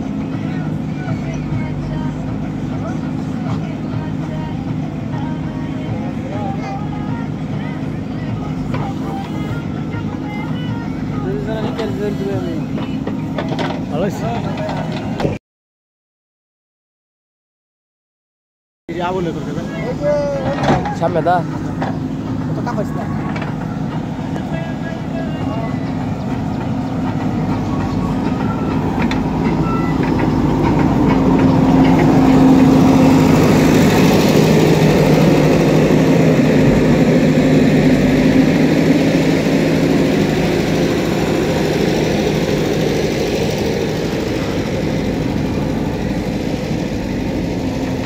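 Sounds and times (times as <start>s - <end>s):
diesel engines humming: 0.0s - 15.4s, 18.9s - 48.0s.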